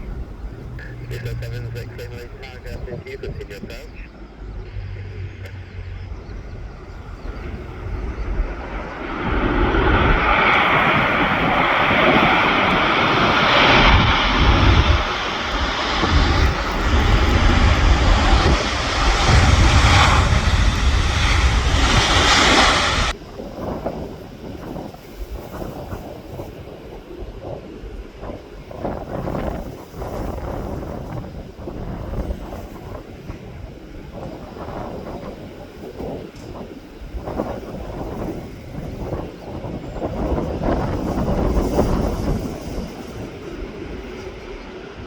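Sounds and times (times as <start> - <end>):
aircraft engines roaring: 0.0 - 45.0
wind buffeting microphone: 0.0 - 45.0.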